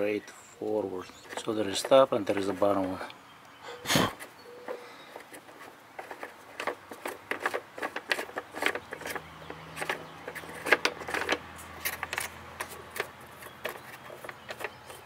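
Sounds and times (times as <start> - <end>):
plastic knob clicking and scraping: 1.2 - 3.0, 4.1 - 15.0.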